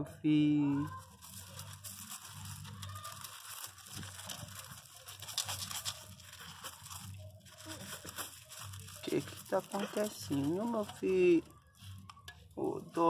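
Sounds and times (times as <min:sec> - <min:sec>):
paws crunching on gravel: 0:01.0 - 0:12.0.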